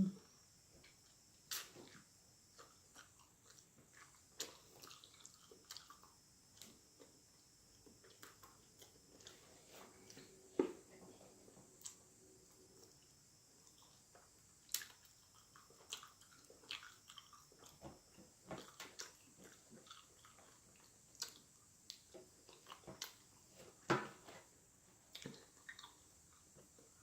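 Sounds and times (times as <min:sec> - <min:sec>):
person chewing food: 0:01.5 - 0:10.7, 0:11.8 - 0:12.0, 0:12.7 - 0:23.4, 0:25.1 - 0:27.0.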